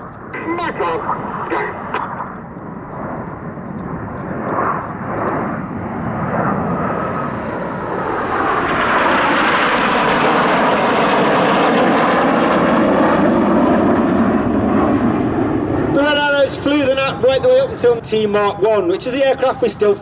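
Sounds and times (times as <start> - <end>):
jets flying past: 0.0 - 20.0.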